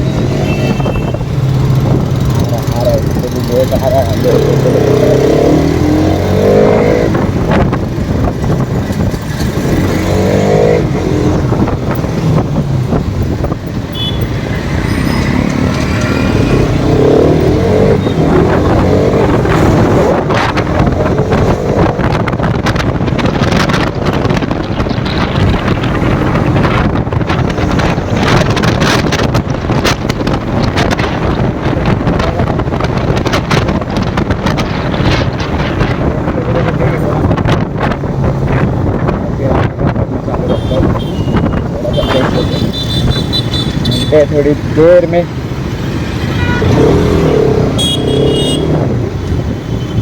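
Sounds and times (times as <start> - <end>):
motorcycle engine revving: 0.0 - 50.0
wind noise on microphone: 0.0 - 50.0.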